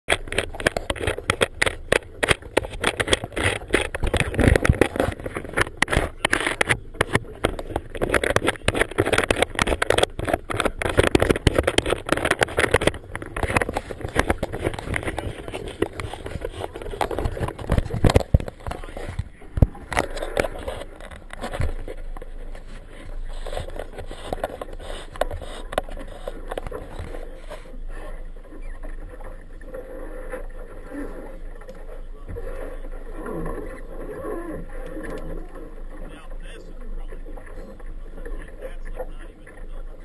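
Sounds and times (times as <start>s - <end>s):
boat low rumble: 0.1s - 40.0s.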